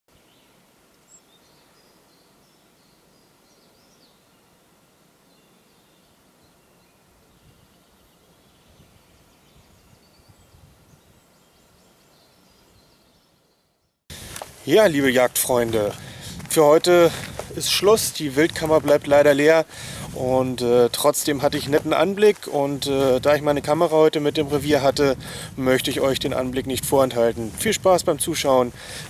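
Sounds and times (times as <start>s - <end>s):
distant birds chirping: 0.1s - 29.0s.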